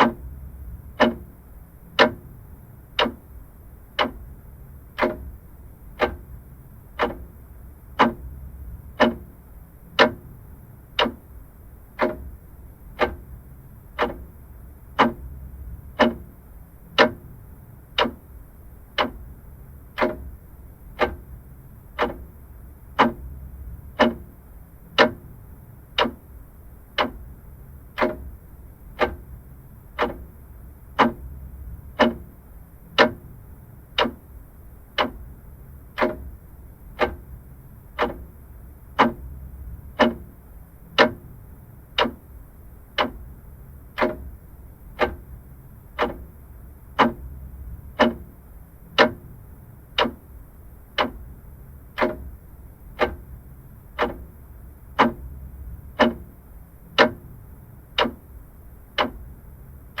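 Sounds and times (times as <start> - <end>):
clock ticking: 0.0 - 60.0
faint low hum: 0.0 - 60.0.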